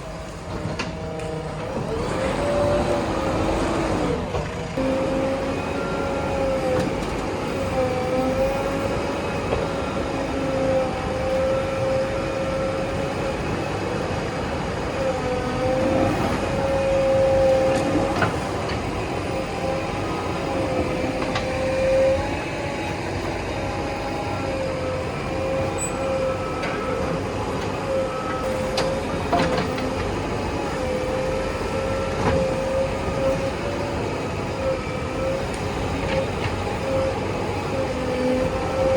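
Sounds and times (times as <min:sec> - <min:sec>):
diesel engine under load: 0:00.0 - 0:38.9
hydraulic whine: 0:00.0 - 0:38.9.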